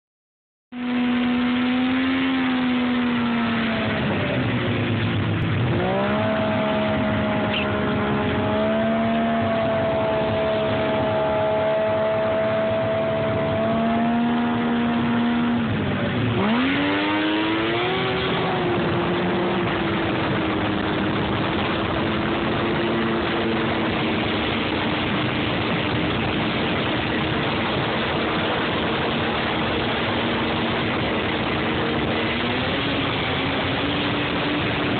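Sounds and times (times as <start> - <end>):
snowmobile engine revving: 0.8 - 34.9
rushing noise: 1.0 - 34.9.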